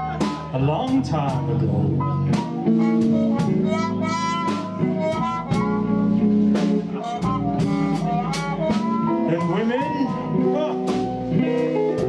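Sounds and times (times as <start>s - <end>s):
bass guitar: 0.0s - 12.0s
drum kit with cymbal strikes: 0.0s - 12.0s
keyboard: 0.0s - 12.0s
electric guitar: 1.2s - 12.0s.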